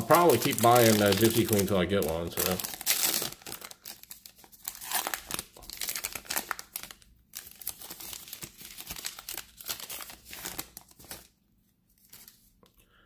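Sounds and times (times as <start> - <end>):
plastic wrapper tearing and crinkling: 0.0 - 11.4.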